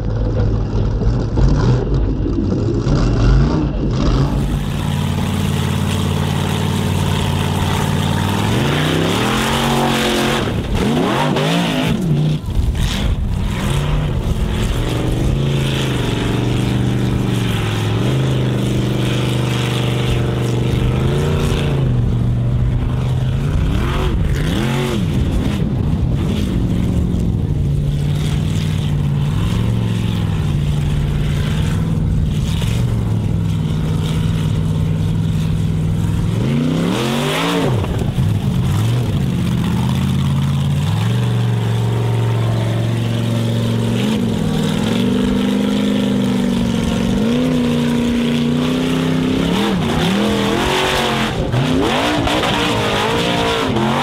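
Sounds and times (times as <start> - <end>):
buggy engine revving hard: 0.0 - 54.0.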